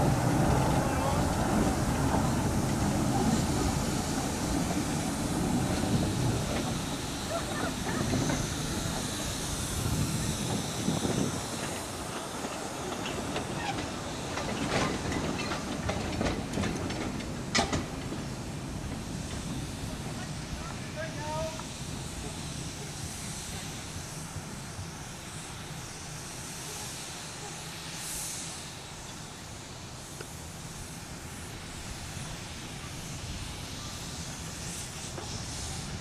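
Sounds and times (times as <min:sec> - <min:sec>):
steam train rolling: 0:00.0 - 0:36.0.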